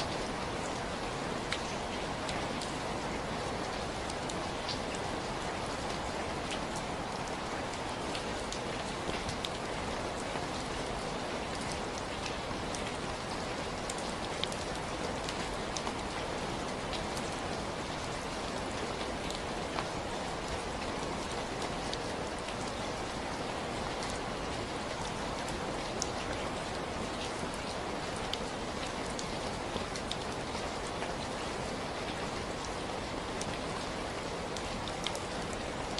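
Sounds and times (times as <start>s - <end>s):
steady rainfall: 0.0s - 35.9s.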